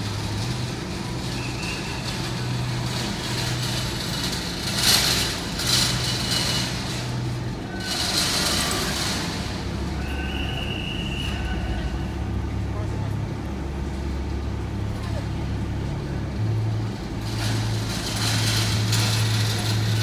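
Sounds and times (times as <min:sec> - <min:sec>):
van engine hum and road noise: 0:00.0 - 0:20.0.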